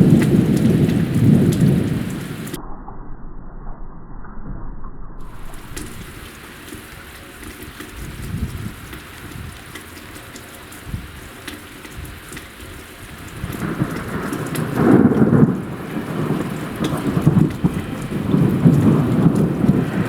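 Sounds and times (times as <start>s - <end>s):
rain falling: 0.0s - 2.6s, 5.3s - 20.0s
thunder rumbling: 0.0s - 4.0s, 4.6s - 20.0s.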